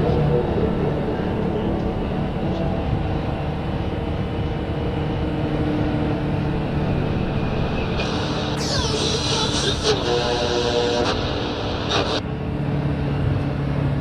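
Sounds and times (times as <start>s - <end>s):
low rumbling drone: 0.0s - 14.0s.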